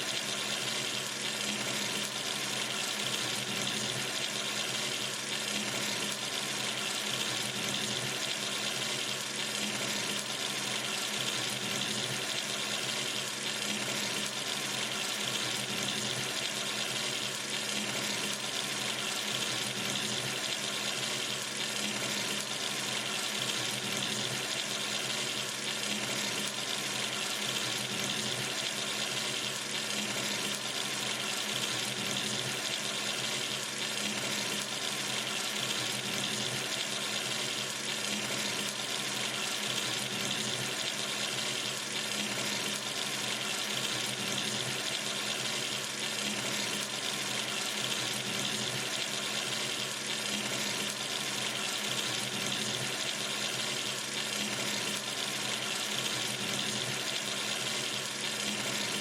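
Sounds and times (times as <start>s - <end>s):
tap water running into sink: 0.0s - 59.0s.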